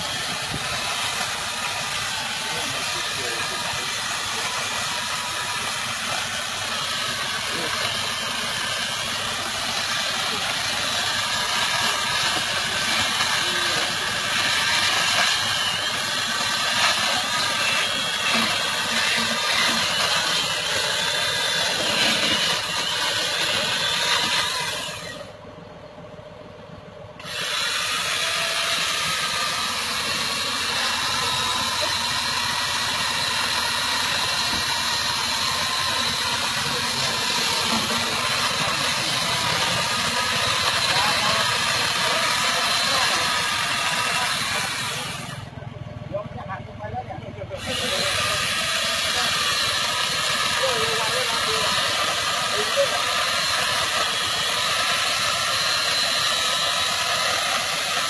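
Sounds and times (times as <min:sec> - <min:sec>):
chainsaw cutting wood: 0:00.0 - 0:25.4, 0:27.2 - 0:45.5, 0:47.5 - 0:58.0.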